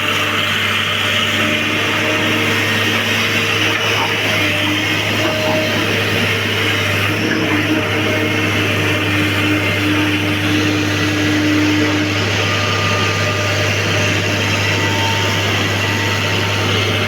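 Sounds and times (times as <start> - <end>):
excavator diesel engine running: 0.0 - 17.0
hydraulic whine: 0.0 - 17.0.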